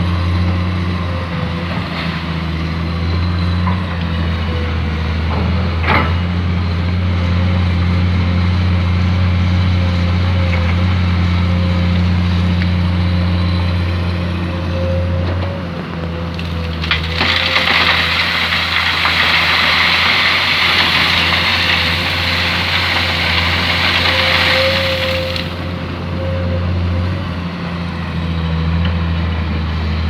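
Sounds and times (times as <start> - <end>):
excavator diesel engine running: 0.3 - 29.8.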